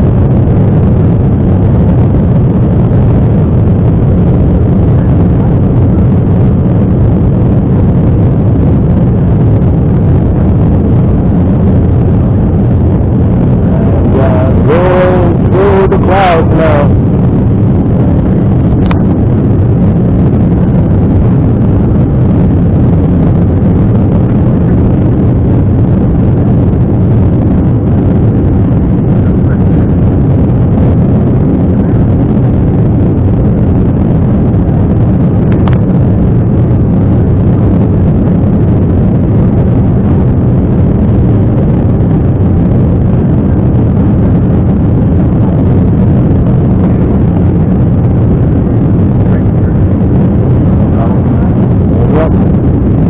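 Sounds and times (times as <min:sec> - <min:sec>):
jet engine cabin rumble: 0:00.0 - 0:53.0.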